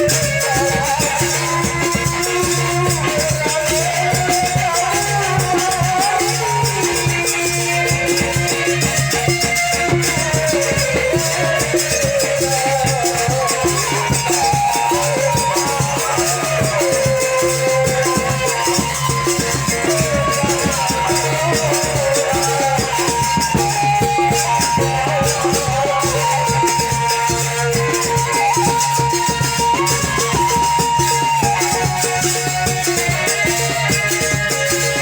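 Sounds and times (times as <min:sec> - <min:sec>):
fast rattling percussion: 0:00.0 - 0:35.0
wavering lead melody: 0:00.0 - 0:35.0.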